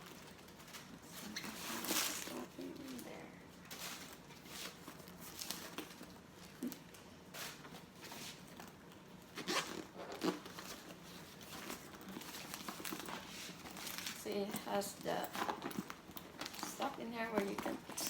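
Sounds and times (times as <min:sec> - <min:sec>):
packing stuffing crinkling: 0:00.0 - 0:18.0.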